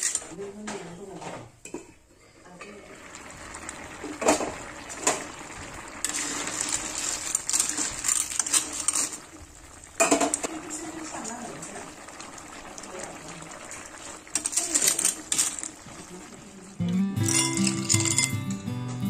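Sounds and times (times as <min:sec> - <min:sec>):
curry boiling in a pan: 0:00.0 - 0:16.9.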